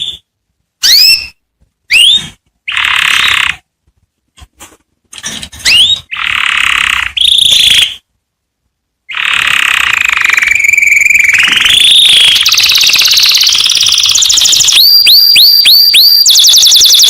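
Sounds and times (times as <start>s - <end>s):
canary singing trills: 0.0s - 3.7s, 5.2s - 8.1s, 9.0s - 17.0s.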